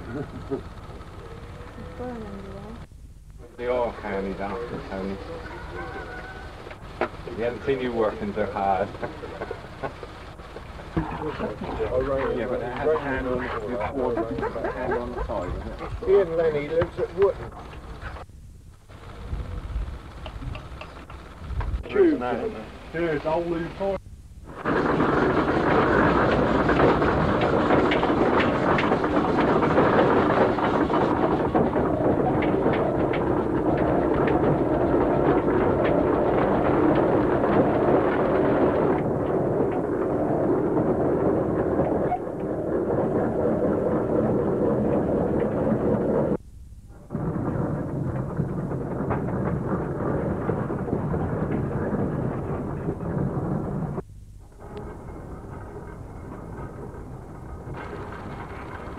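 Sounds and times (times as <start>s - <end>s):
steam road roller rumble: 0.0s - 58.9s.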